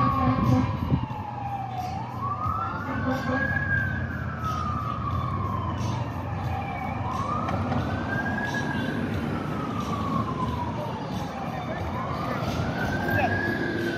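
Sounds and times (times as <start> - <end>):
fire engine siren wailing: 0.0 - 13.9
low rumble of traffic: 0.0 - 13.9.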